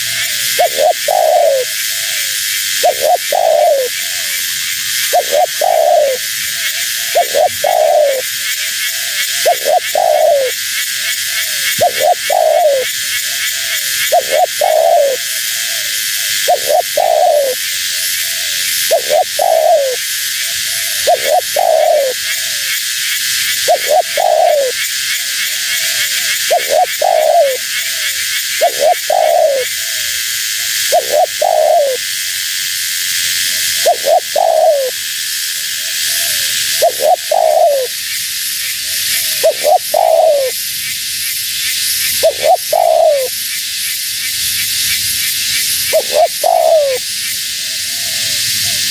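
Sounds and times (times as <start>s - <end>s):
dove cooing: 0.0s - 22.8s, 23.4s - 32.2s, 33.6s - 35.0s, 36.0s - 38.0s, 39.1s - 40.6s, 42.1s - 43.3s, 45.6s - 47.1s
steady high hiss: 0.0s - 48.9s.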